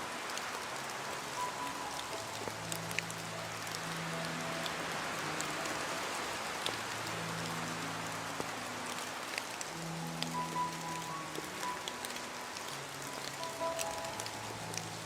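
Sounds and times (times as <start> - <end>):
soft music of low held notes: 0.0 - 15.0
steady rain: 0.0 - 15.0.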